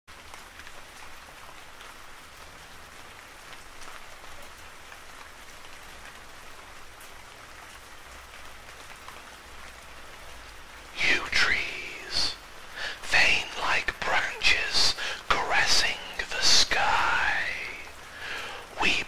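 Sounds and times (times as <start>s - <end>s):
rain falling: 0.1s - 19.0s.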